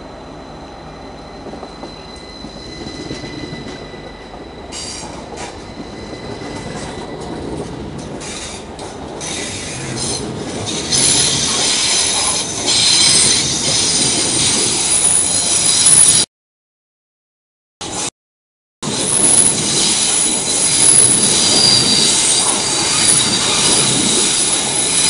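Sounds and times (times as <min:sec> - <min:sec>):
train high whine: 0:00.0 - 0:16.3, 0:18.8 - 0:25.0
train wheel squeal: 0:00.0 - 0:16.3, 0:18.8 - 0:25.0.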